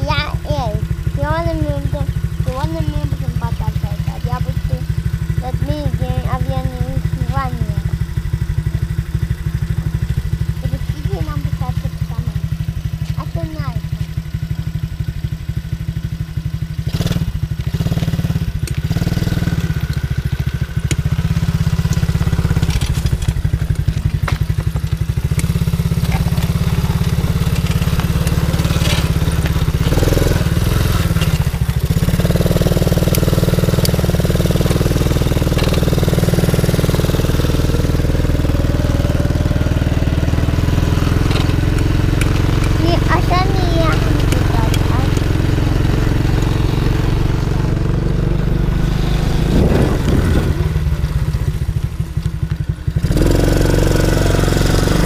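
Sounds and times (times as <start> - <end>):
small atv engine running: 0.0 - 55.0.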